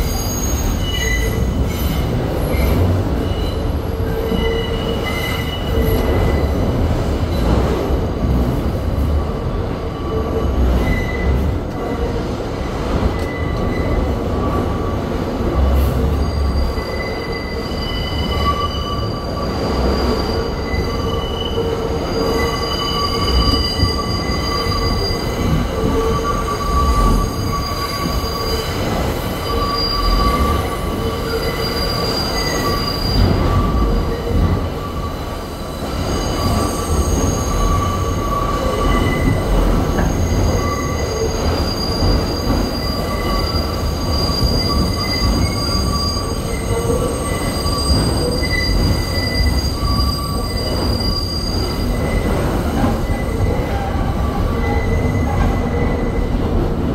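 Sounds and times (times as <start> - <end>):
wheel squeal: 0.0 - 6.7, 9.8 - 14.9, 16.0 - 56.4
train wheels rumbling: 0.0 - 56.9.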